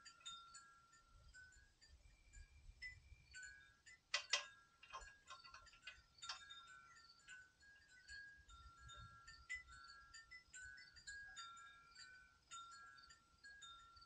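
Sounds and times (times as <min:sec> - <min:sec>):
faint high ringing tones: 0:00.0 - 0:14.0.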